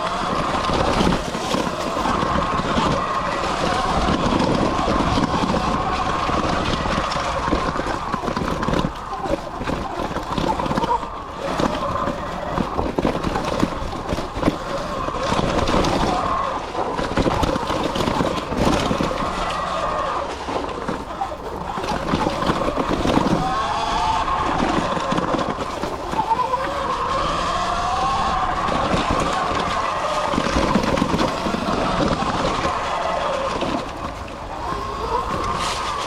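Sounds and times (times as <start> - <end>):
bike knocks and rattles: 0.0 - 36.0
electric motor whining: 0.0 - 36.0
rush of riding noise: 0.0 - 36.0.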